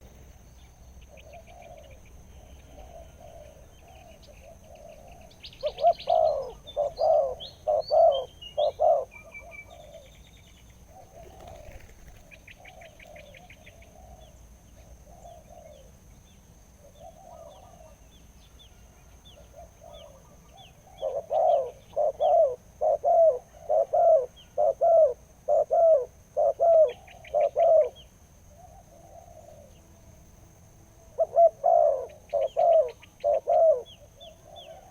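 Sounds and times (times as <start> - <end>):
small birds chirping: 0.0 - 25.8, 26.4 - 30.0
dove cooing: 1.1 - 10.2, 10.8 - 16.1, 16.8 - 18.1, 18.8 - 29.8, 31.1 - 34.9.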